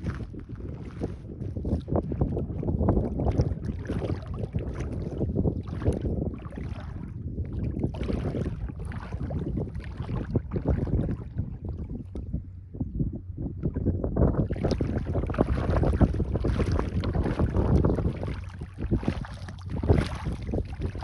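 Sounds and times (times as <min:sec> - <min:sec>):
sea water lapping: 0:00.0 - 0:12.4, 0:13.6 - 0:21.0
wind rumbling on microphone: 0:00.0 - 0:21.0.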